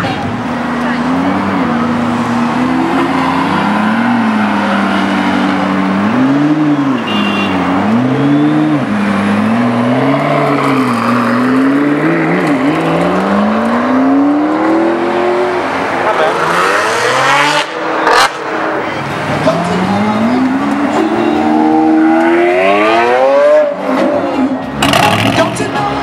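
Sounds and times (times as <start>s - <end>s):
car engine revving: 0.3s - 25.8s.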